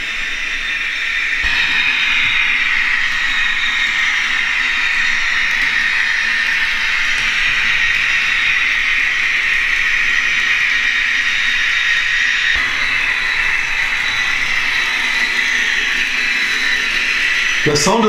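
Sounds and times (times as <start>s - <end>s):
model locomotive sound through speaker: 0.0s - 18.0s.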